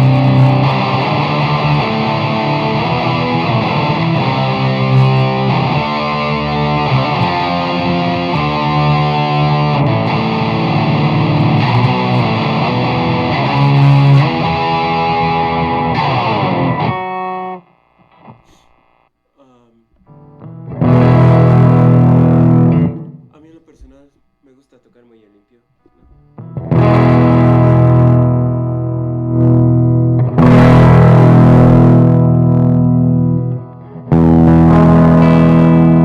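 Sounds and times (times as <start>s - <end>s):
distorted electric guitar strumming chords: 0.0s - 19.0s, 20.0s - 23.9s, 25.9s - 36.0s.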